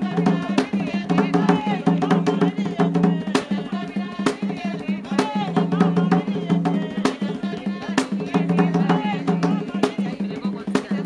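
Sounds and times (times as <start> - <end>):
hand drums fast rhythm: 0.0 - 11.0.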